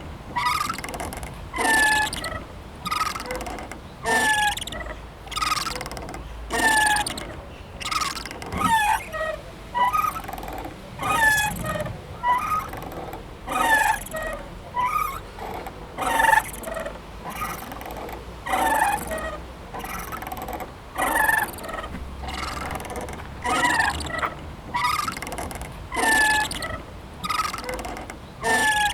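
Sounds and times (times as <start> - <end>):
playground swing squeaking: 0.0 - 28.9.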